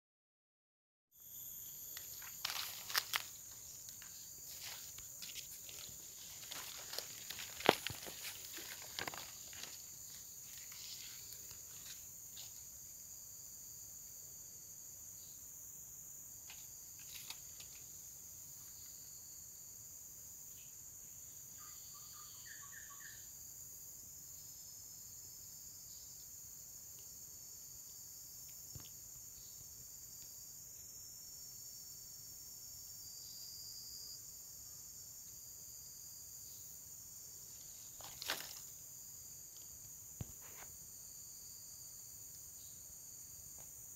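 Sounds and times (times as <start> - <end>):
crickets trilling: 1.2 - 43.9.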